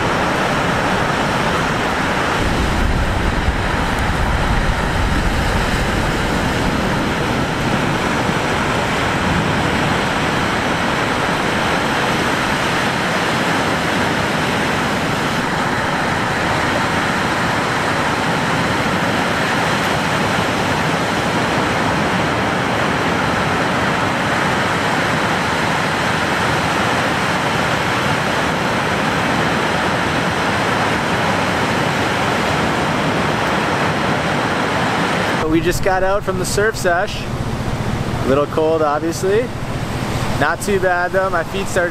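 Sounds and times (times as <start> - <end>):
breaking surf: 0.0 - 41.9
strong wind: 0.0 - 41.9.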